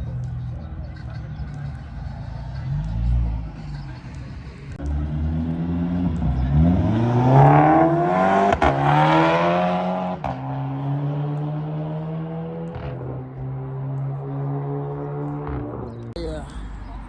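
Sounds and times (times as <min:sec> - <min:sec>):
car engine revving: 0:01.5 - 0:16.2.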